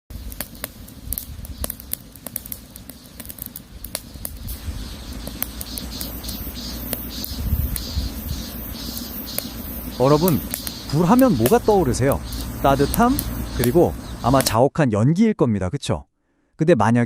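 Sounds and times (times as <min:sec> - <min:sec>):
fire hissing: 0:00.1 - 0:14.6
wood fire crackling: 0:00.1 - 0:14.6.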